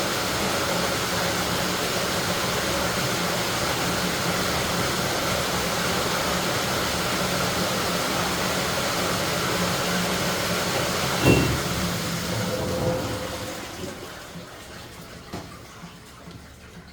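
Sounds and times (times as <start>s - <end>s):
washing machine rushing noise: 0.0s - 16.9s.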